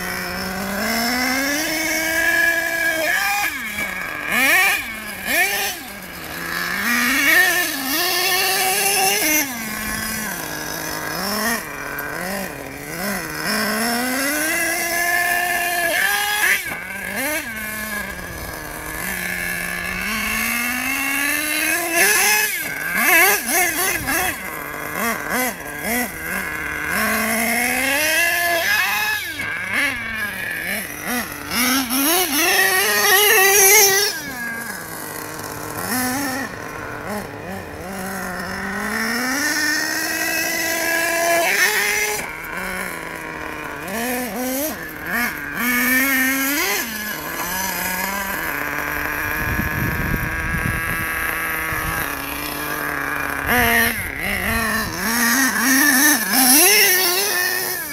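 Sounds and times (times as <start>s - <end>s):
rc car nitro engine revving: 0.0s - 57.9s.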